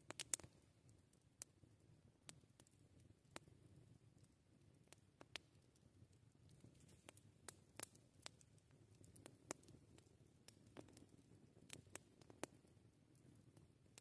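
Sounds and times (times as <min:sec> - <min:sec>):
campfire popping and snapping: 0:00.0 - 0:01.6, 0:02.2 - 0:14.0
faint low fire rumble: 0:00.0 - 0:14.0.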